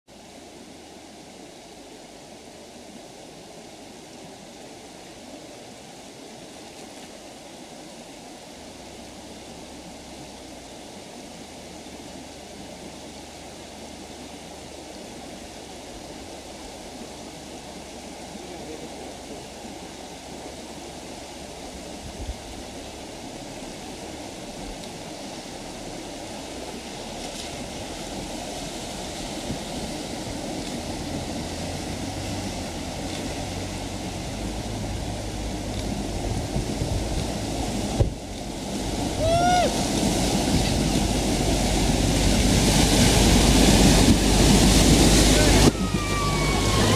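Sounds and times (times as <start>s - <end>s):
river water rushing: 0.1s - 46.9s
low rumble: 8.5s - 46.9s.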